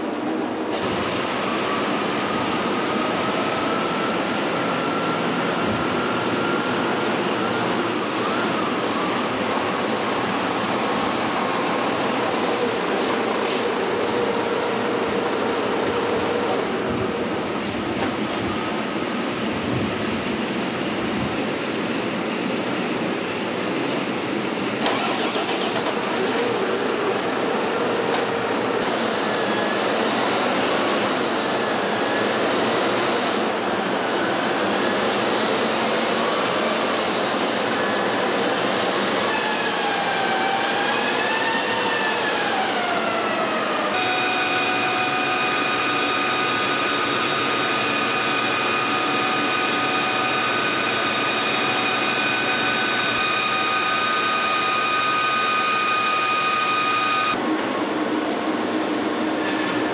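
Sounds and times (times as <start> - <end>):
truck on roller test stand whining: 0.7 - 18.8, 24.8 - 59.9.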